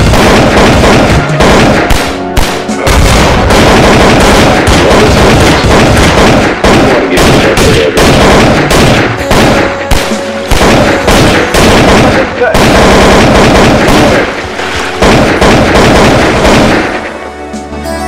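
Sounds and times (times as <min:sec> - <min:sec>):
automatic rifle fire: 0:00.0 - 0:17.1.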